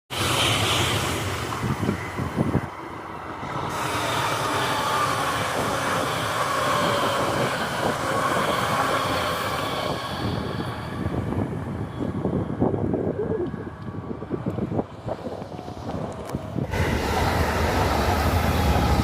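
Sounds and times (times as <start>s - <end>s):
train wheels rumbling on rails: 0.1s - 19.0s.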